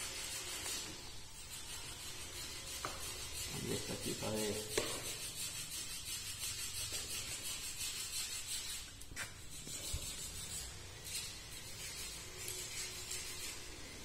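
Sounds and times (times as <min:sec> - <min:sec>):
workshop background noise: 0:00.0 - 0:14.0.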